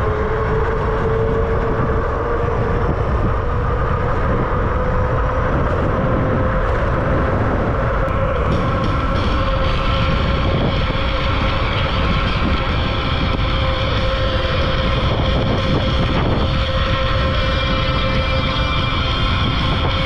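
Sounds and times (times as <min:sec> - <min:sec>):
electric bike motor whine: 0:00.0 - 0:20.0
wind rumble on microphone: 0:00.0 - 0:20.0.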